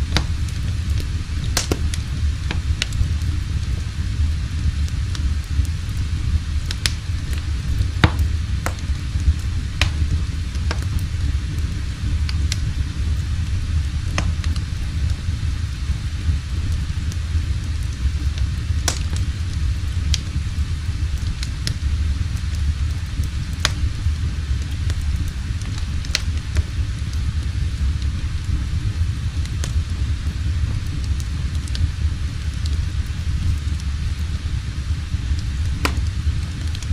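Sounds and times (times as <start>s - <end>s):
wood fire crackling and popping: 0.0s - 36.9s.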